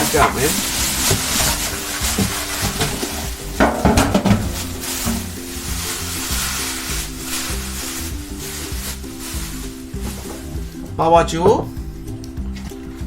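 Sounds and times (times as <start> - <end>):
plastic packaging crinkling: 0.0 - 10.9
background music: 0.0 - 13.0.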